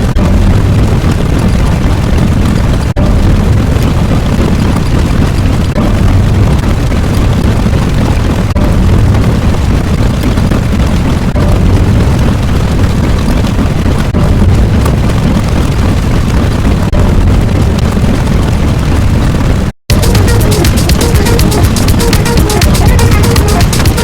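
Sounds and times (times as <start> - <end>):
deep rumbling noise: 0.0 - 24.0.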